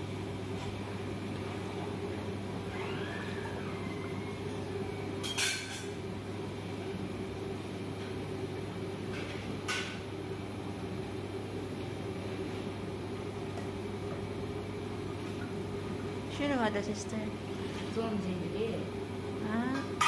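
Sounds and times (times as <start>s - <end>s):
broth boiling: 0.0s - 20.0s
gas burner running: 0.0s - 20.0s.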